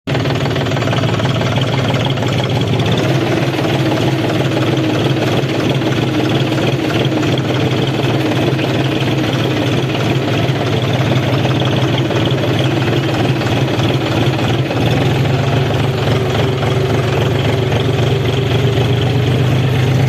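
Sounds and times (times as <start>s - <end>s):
tractor diesel engine running: 0.1s - 20.0s.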